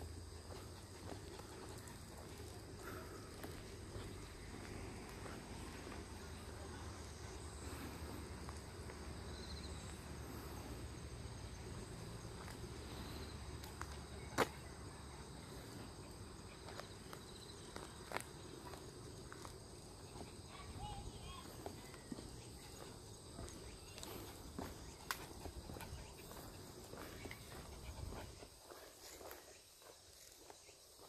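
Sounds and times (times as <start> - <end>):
faint footsteps outdoors: 0.0 - 31.0
insects chirping: 0.0 - 31.0.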